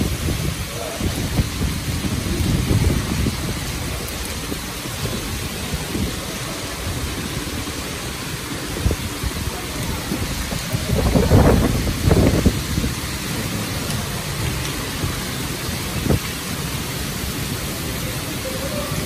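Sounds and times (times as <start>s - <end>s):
low gusting rumble: 0.0s - 18.4s
heavy rain pouring: 0.0s - 19.0s.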